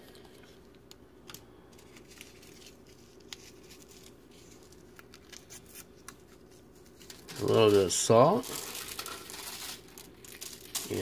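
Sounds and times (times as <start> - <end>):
foil crinkling: 1.3 - 11.0.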